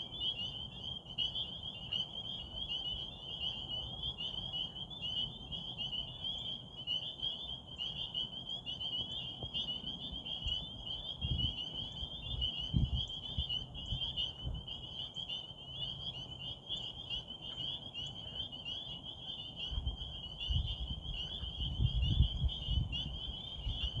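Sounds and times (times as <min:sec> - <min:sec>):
frogs trilling: 0:00.0 - 0:24.0.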